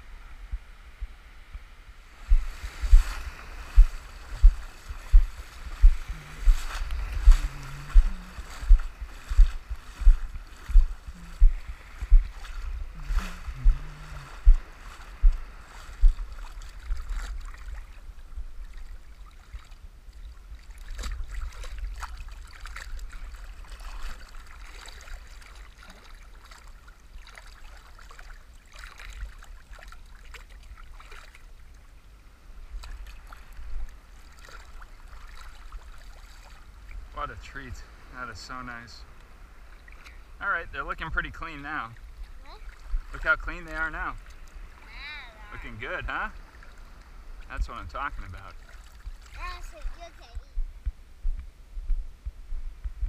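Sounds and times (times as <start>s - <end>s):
footsteps wading through surf: 2.0s - 31.5s, 32.6s - 40.4s, 41.0s - 50.1s
water sloshing and splashing: 2.2s - 32.0s, 32.6s - 37.5s, 39.4s - 40.3s, 41.1s - 50.4s.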